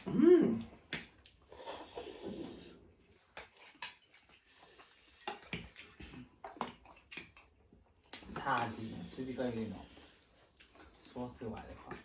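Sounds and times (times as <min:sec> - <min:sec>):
soft chewing noises: 0:00.0 - 0:12.0.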